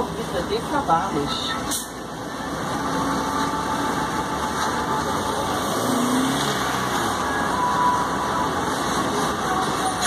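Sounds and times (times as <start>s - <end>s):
road train engine and road noise: 0.0s - 10.0s.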